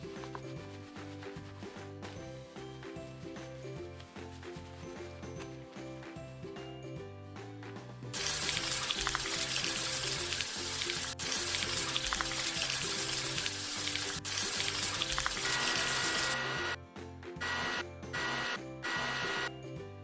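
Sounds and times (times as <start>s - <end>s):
background music with steady beat: 0.0s - 20.0s.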